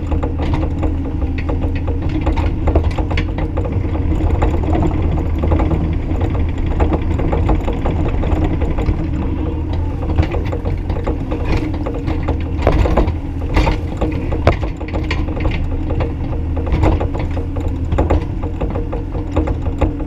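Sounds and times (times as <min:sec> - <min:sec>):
excavator diesel engine running: 0:00.0 - 0:20.0
metallic clicks and clanks: 0:00.0 - 0:20.0.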